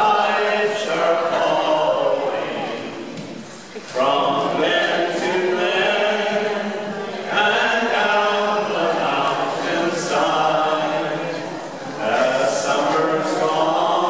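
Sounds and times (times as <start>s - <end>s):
group singing in unison: 0.0s - 14.0s.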